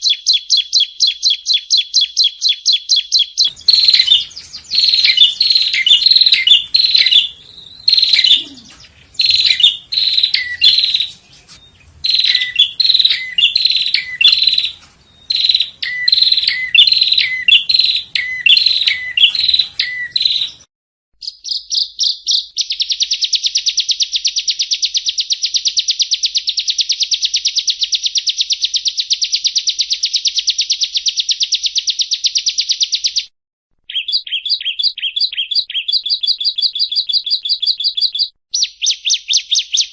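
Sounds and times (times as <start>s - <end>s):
bird chirping phrases: 0.0s - 33.2s, 33.9s - 39.9s
fast bird trill: 0.0s - 33.3s, 33.9s - 39.9s.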